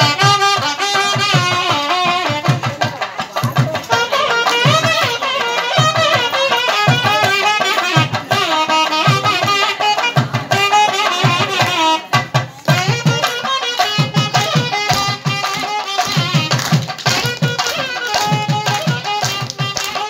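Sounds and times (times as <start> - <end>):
steady drum beats: 0.0 - 20.0.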